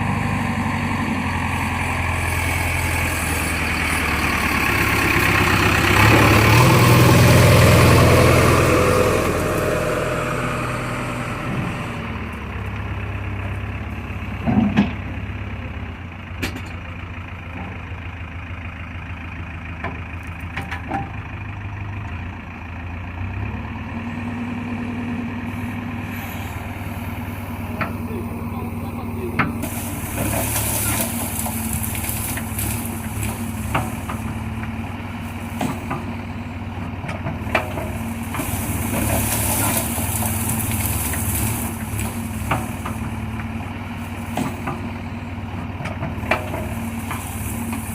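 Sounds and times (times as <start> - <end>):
heavy diesel engine revving: 0.0 - 20.5, 21.1 - 47.9.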